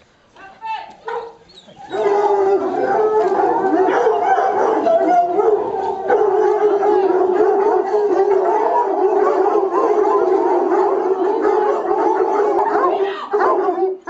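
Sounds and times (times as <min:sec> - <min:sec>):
dogs howling in chorus: 0:01.1 - 0:14.0.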